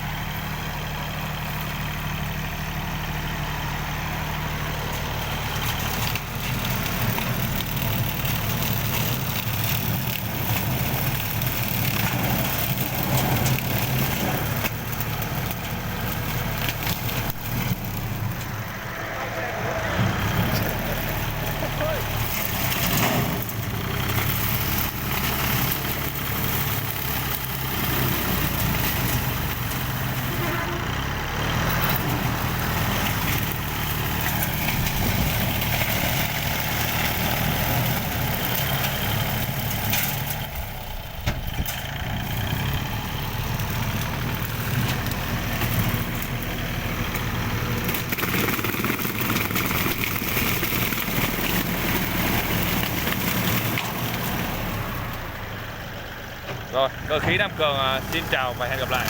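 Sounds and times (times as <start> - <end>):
grass cutter engine running: 3.7 - 55.4.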